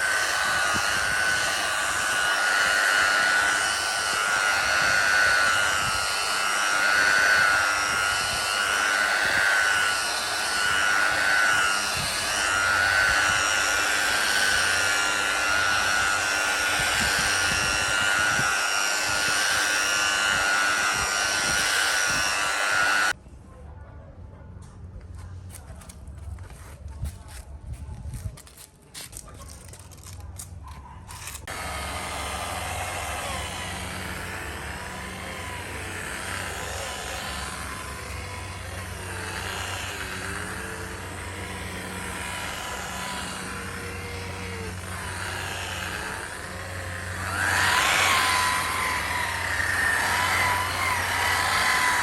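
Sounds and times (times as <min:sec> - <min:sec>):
power tool motor whining: 0:00.0 - 0:23.2, 0:28.4 - 0:52.0.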